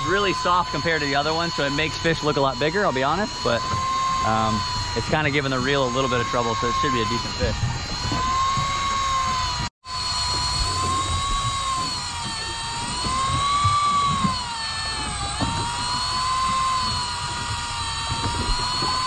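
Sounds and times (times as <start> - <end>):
electric reel motor whining: 0.0 - 19.0.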